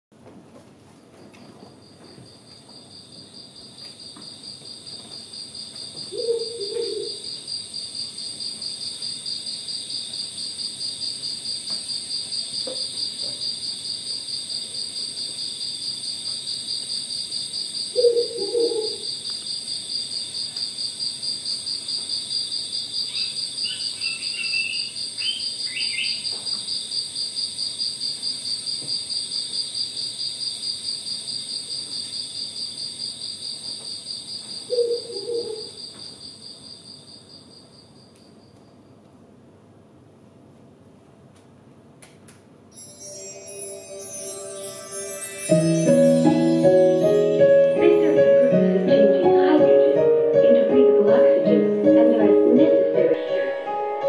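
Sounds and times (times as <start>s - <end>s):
crickets trilling: 1.2s - 39.0s, 42.7s - 53.8s.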